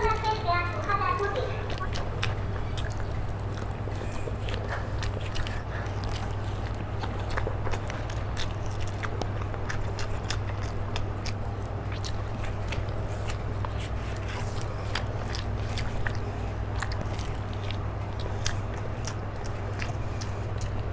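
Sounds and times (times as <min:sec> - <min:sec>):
person chewing food: 0:00.0 - 0:20.9
steady low hum: 0:00.0 - 0:20.9.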